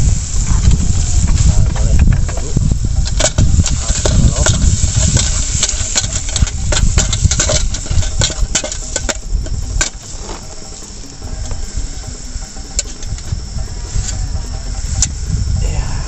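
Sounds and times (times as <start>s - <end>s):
fire crackling: 0.0s - 16.0s
insects chirping: 0.0s - 16.0s.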